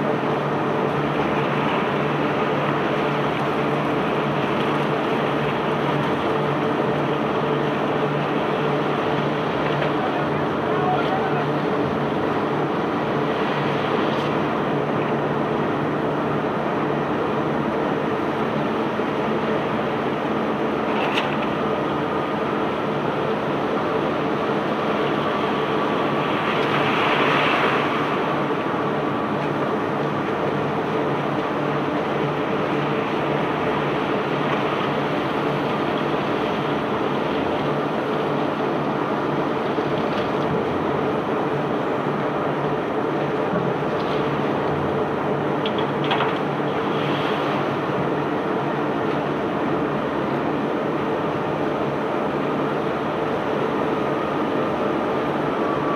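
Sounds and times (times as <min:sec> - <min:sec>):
continuous machinery rumble: 0:00.0 - 0:55.9
machinery engine hum: 0:00.0 - 0:55.9.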